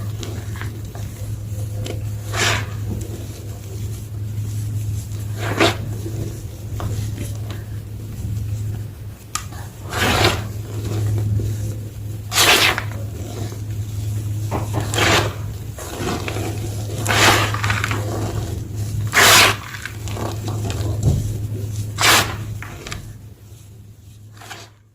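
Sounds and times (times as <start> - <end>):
chalk blocks crunching: 0.0 - 24.9
low hum: 0.0 - 24.9
soft crumbling: 0.0 - 24.9.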